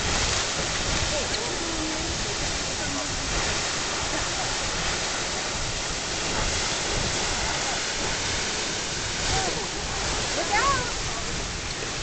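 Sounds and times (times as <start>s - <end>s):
geyser rushing water and spray: 0.0s - 12.0s.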